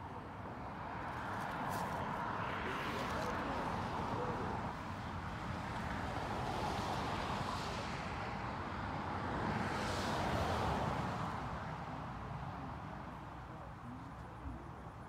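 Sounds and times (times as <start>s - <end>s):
cars passing: 0.0s - 15.0s
steady traffic rumble: 0.0s - 15.0s.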